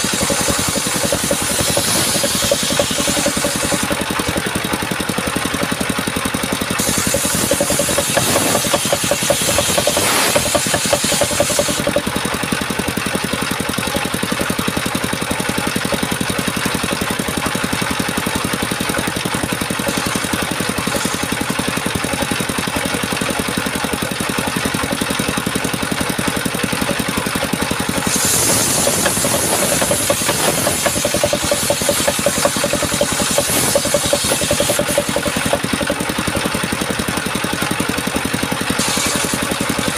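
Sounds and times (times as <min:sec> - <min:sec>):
power saw cutting wood: 0:00.0 - 0:14.1, 0:19.2 - 0:23.5, 0:24.6 - 0:39.9.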